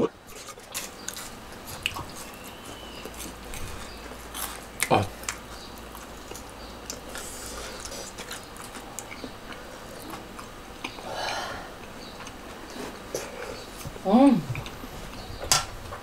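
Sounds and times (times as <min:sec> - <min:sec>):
person chewing: 0:00.3 - 0:13.9, 0:14.5 - 0:15.2.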